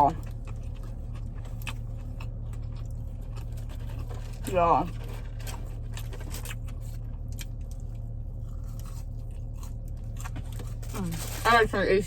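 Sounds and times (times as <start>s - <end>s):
chewing and eating noises: 0.0s - 12.0s
steady low hum: 0.0s - 12.0s.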